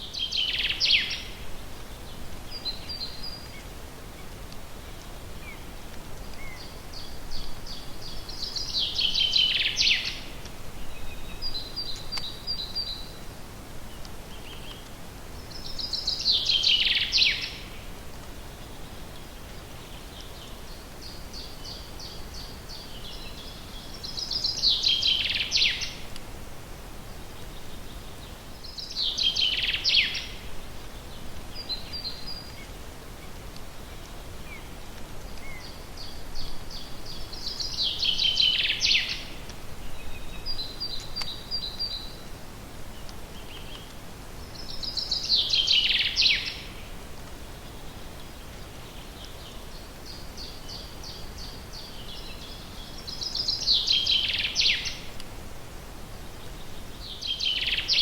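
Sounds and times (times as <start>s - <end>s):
background hiss: 0.0s - 58.0s
songbird singing: 0.0s - 58.0s.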